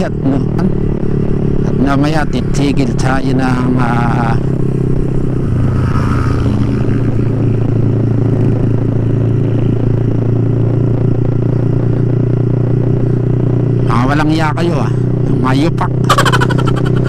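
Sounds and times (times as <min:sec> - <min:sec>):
motorcycle engine running steadily: 0:00.0 - 0:17.0.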